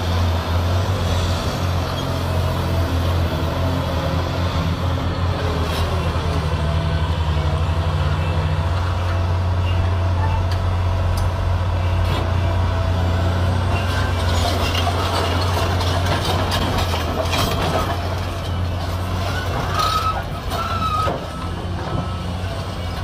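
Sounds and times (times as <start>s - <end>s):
excavator diesel engine droning: 0.0s - 23.0s.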